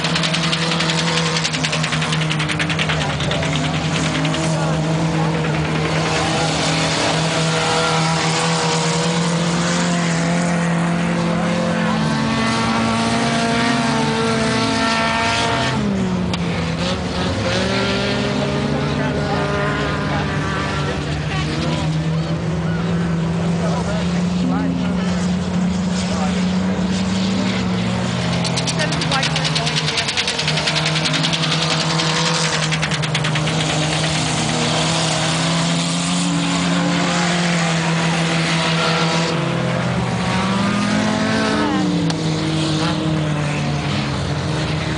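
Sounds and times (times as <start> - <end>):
racing car engines running hard: 0.0 - 44.9.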